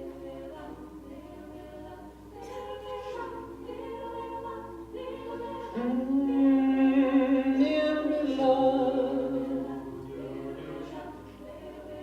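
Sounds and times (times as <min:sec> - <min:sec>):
vocal group singing chords: 0:00.0 - 0:12.0.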